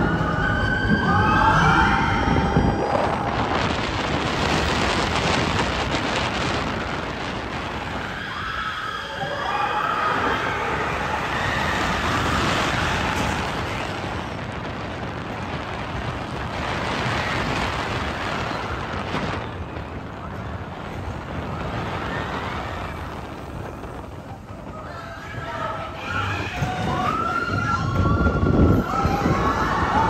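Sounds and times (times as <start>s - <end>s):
roller coaster rushing on track: 0.0s - 30.0s.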